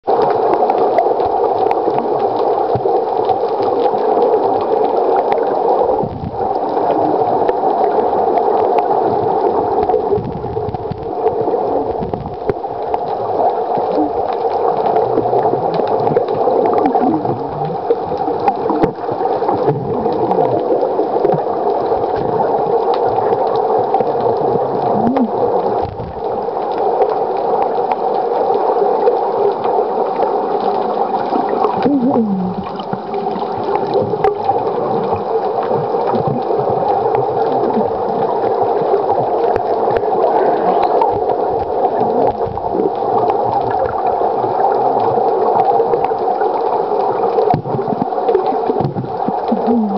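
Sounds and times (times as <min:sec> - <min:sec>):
water gurgling: 0:00.0 - 0:49.9
muffled underwater hum: 0:01.7 - 0:27.3, 0:29.5 - 0:49.9.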